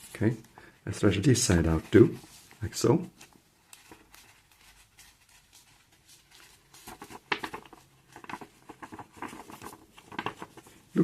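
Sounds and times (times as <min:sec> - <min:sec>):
paper rustling and crinkling: 0:01.1 - 0:11.0.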